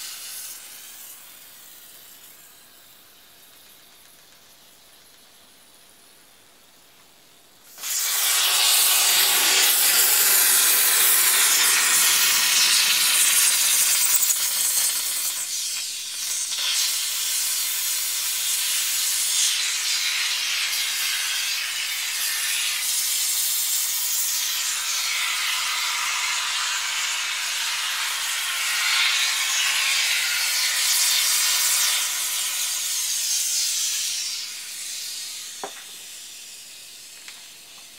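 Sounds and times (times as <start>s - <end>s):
aerosol can hissing: 0.0s - 5.8s, 7.7s - 37.9s.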